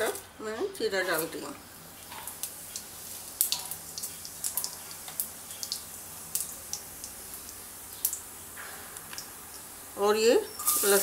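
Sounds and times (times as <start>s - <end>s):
oil sizzling hiss: 0.9s - 11.0s
seeds popping in hot oil: 1.0s - 11.0s.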